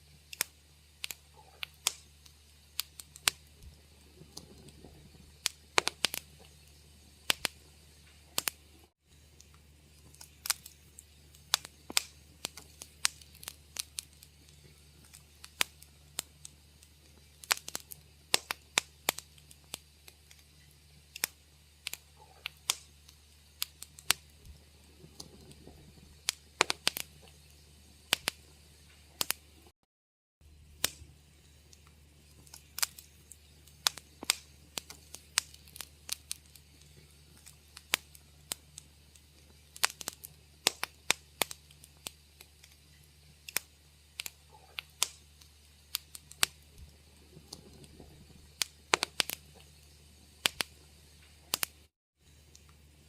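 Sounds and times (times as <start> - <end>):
low steady hum: 0.0 - 29.7, 30.4 - 53.0
wood fire crackling: 0.0 - 29.7, 30.4 - 53.0.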